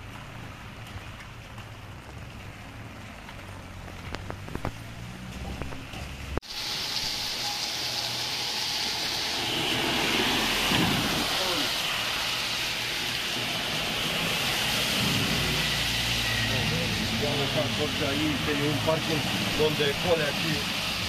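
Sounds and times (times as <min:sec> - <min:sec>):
car driving through water: 0:00.0 - 0:21.0
heavy rain on a flooded street: 0:00.0 - 0:21.0.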